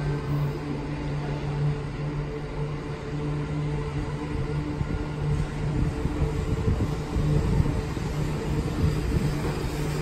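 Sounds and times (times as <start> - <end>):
train motor hum: 0.0 - 10.0
train wheels rumbling on rails: 0.0 - 10.0.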